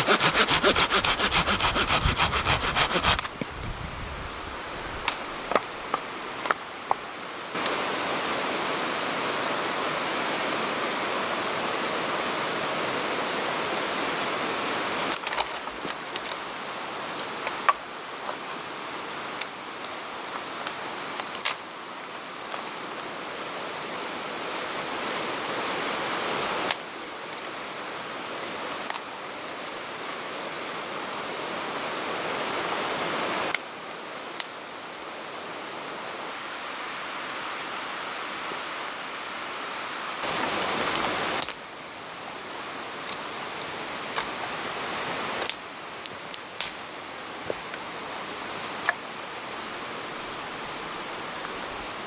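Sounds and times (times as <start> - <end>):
rushing water: 0.0 - 3.4, 4.3 - 21.7, 22.6 - 52.0.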